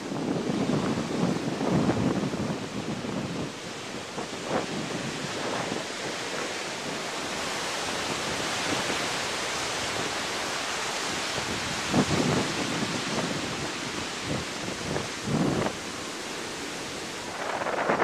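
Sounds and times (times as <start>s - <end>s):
surf breaking on sand: 0.0s - 18.0s.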